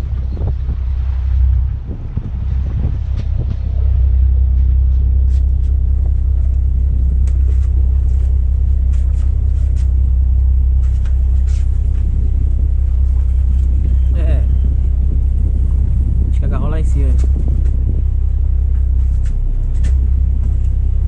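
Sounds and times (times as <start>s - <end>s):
motorboat engine rumbling: 0.0s - 21.0s.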